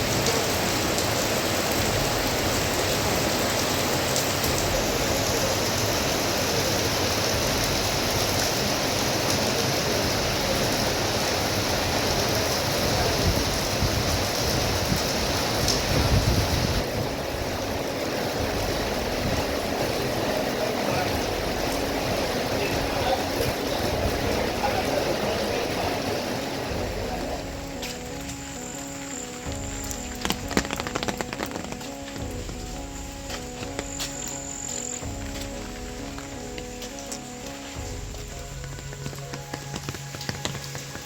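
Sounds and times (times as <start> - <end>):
heavy rain and rushing water: 0.0 - 41.0.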